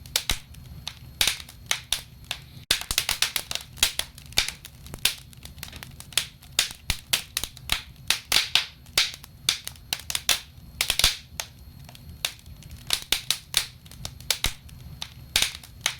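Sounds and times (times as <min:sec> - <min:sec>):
burning logs popping and snapping: 0:00.0 - 0:15.9
low fire rumble: 0:00.0 - 0:15.9.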